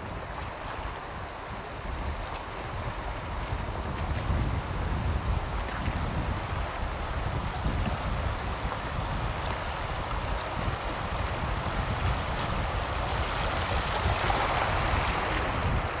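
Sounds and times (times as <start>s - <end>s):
river water rushing: 0.0s - 16.0s
wind rumbling on microphone: 0.0s - 16.0s.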